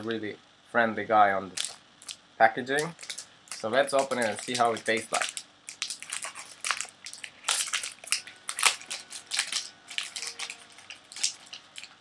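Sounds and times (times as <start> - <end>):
wrapper tearing and crinkling: 1.6 - 2.2, 2.8 - 12.0.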